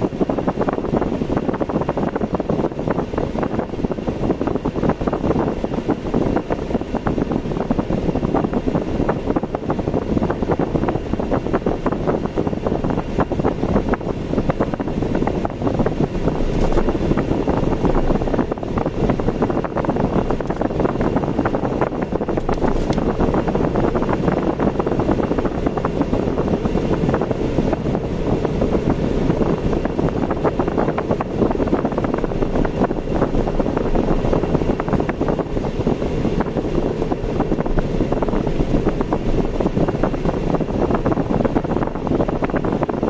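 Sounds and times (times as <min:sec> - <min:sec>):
car road and engine noise: 0:00.0 - 0:43.0
wind buffeting microphone: 0:00.0 - 0:43.0.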